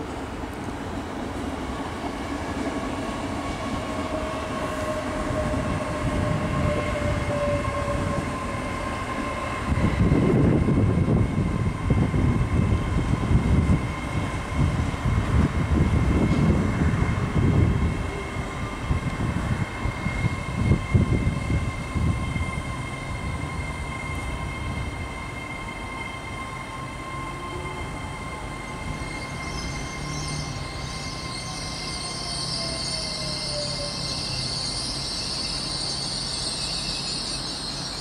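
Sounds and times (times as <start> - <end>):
train electric whine: 0.0 - 38.0
wheels rumbling on rail: 0.0 - 38.0.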